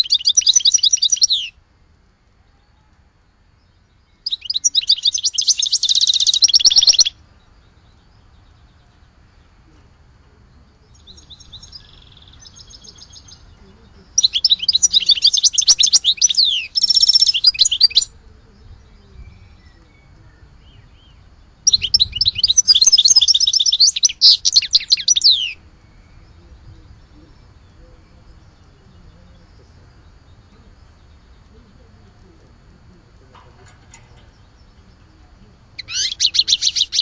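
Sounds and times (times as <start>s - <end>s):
songbird trilling: 0.0s - 1.6s, 3.6s - 9.9s, 10.6s - 37.0s.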